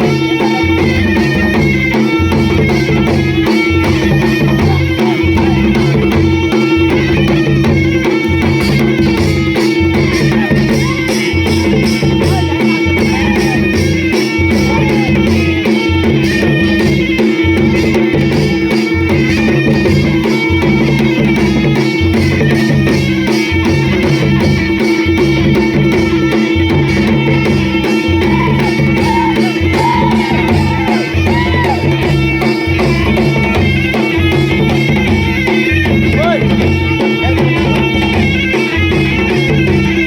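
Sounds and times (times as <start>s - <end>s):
drums playing driving rhythm: 0.0s - 40.0s
held drone tone: 0.0s - 40.0s.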